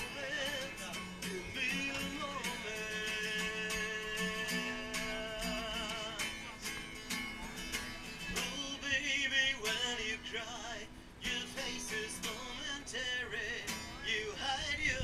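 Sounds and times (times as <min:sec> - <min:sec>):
man singing: 0:00.0 - 0:07.5, 0:08.2 - 0:15.0
acoustic guitar strumming: 0:00.0 - 0:15.0.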